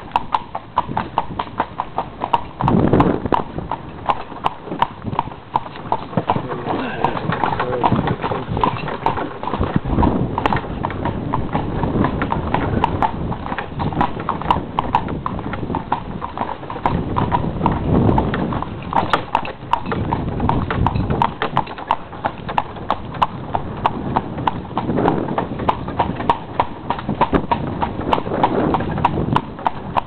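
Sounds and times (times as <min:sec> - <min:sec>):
cart rumbling: 0:00.0 - 0:30.0
hooves clip-clopping on pavement: 0:00.0 - 0:30.0.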